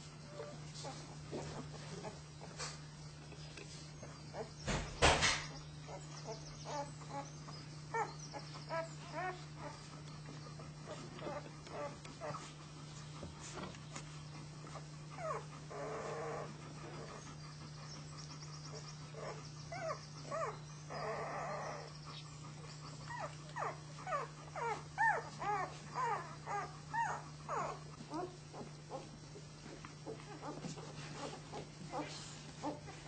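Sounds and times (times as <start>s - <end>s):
steady low hum: 0.0s - 33.0s
puppies squeaking and whimpering: 0.3s - 2.9s, 4.0s - 33.0s.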